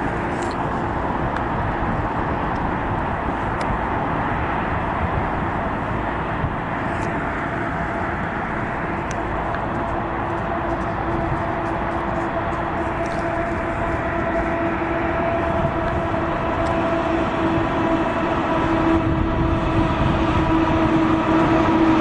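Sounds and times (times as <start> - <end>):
steady hum: 0.0 - 22.0
steel wheels rumbling on rail: 0.0 - 22.0.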